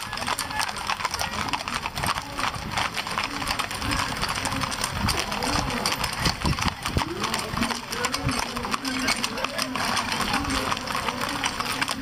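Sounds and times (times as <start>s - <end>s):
horse hooves clip-clopping: 0.0s - 12.0s
people talking: 0.0s - 12.0s.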